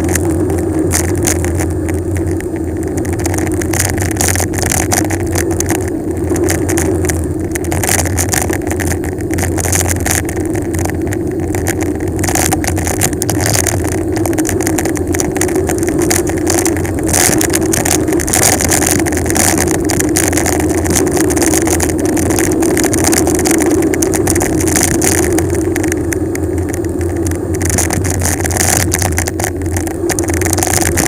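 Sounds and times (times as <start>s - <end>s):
bicycle ticks and rattles: 0.0s - 31.0s
wind rumbling on microphone: 0.0s - 31.0s.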